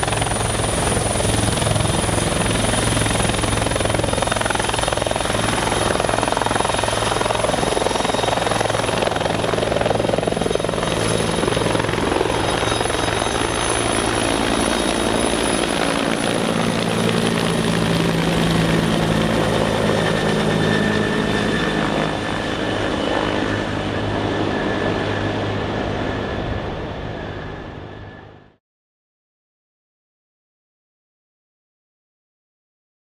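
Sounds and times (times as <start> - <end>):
helicopter rotor and turbines: 0.0 - 28.6.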